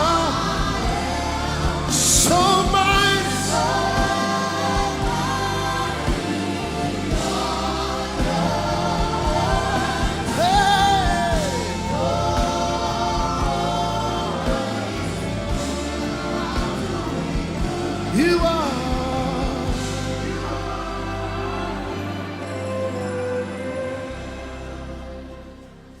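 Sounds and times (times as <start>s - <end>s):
choir singing with accompaniment: 0.0s - 26.0s.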